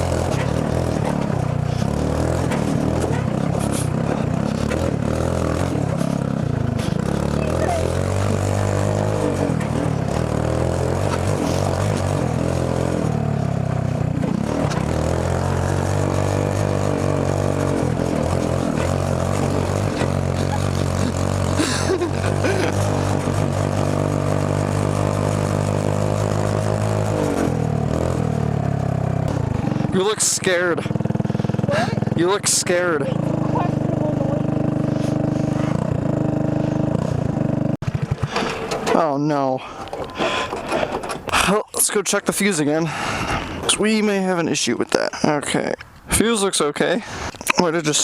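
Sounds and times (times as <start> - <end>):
go-kart engine revving: 0.0 - 45.6
kart rattling and scraping: 0.0 - 48.0.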